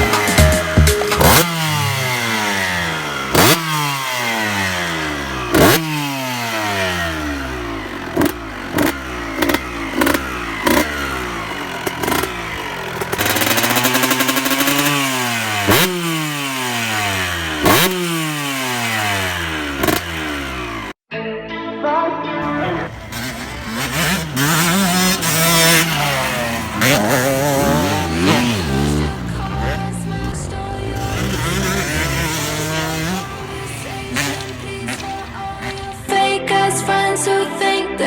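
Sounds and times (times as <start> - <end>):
two-stroke engine revving: 0.0 - 21.0, 22.4 - 37.4.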